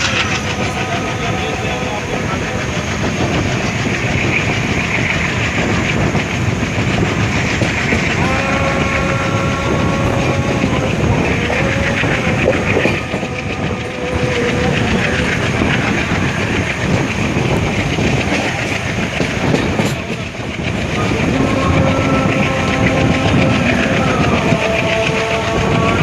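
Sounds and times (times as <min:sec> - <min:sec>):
train rumbling at speed: 0:00.0 - 0:26.0
wheels clattering on rail joints: 0:00.0 - 0:26.0.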